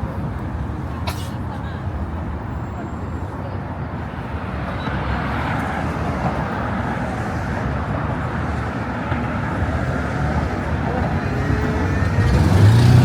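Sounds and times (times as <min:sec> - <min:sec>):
passing road traffic: 0:00.0 - 0:13.0.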